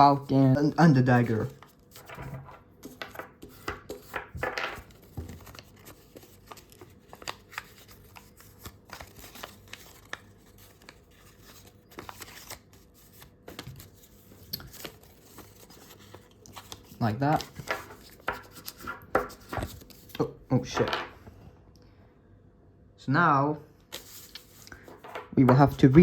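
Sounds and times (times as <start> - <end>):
paper crinkling and creasing: 0.0 - 20.3, 23.9 - 26.0.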